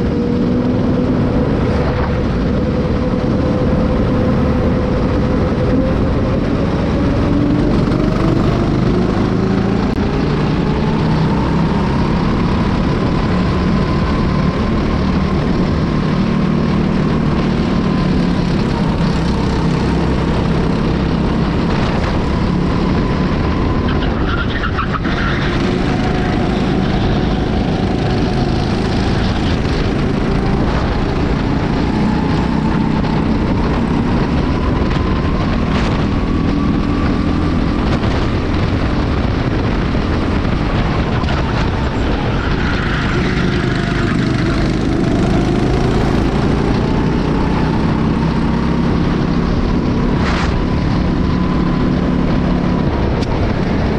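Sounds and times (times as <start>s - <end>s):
kart engine revving: 0.0s - 53.9s
low rumble: 0.0s - 53.9s.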